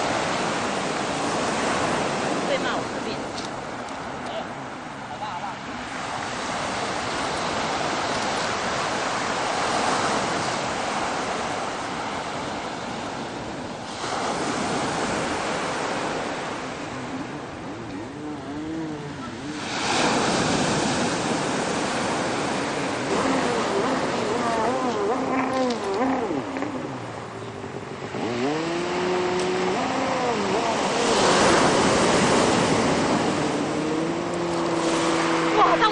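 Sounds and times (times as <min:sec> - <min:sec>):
ocean surf breaking: 0:00.0 - 0:35.9.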